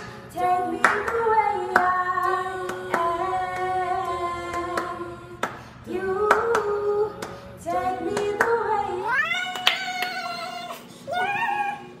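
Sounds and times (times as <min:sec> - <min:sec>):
woman singing a cappella: 0:00.0 - 0:12.0.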